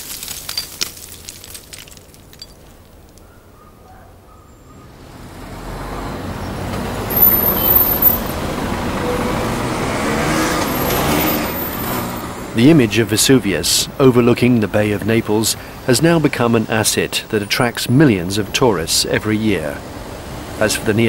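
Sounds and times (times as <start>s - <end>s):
buses and cars running: 0.0s - 21.0s.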